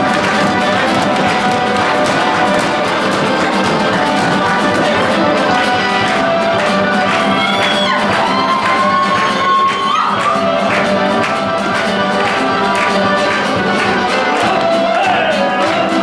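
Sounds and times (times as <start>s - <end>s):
folk dance music: 0.0s - 16.0s.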